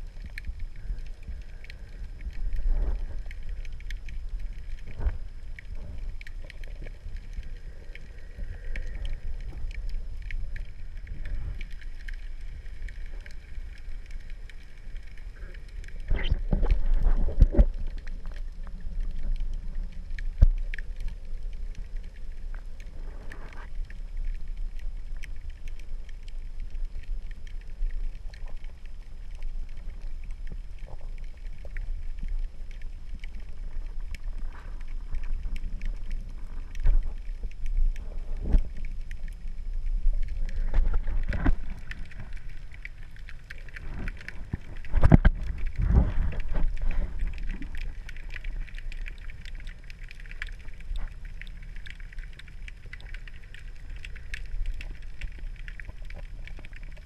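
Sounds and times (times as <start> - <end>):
faint clicks: 0.0 - 57.0
underwater rumble of moving water: 0.0 - 57.0.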